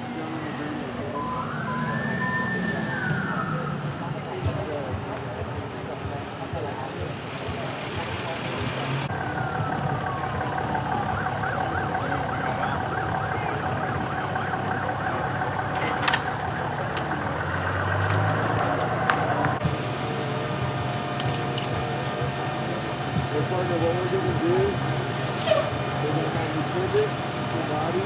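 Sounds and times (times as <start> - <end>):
emergency vehicle siren: 0.0 - 28.0.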